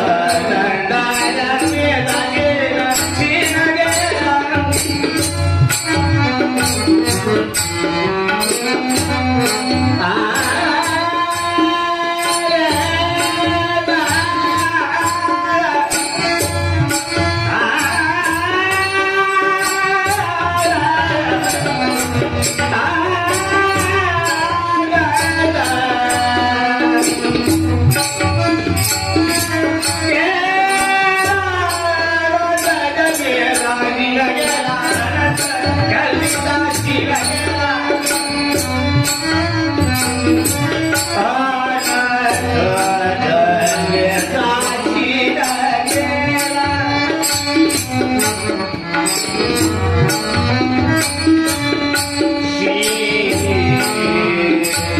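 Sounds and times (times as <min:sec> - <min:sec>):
man singing devotional song: 0:00.0 - 0:54.9.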